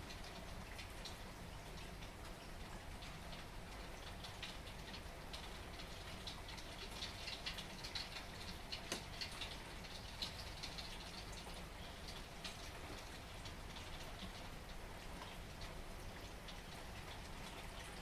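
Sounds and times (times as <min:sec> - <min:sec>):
rain falling: 0:00.0 - 0:18.0
raindrops ticking on hard surface: 0:00.0 - 0:18.0.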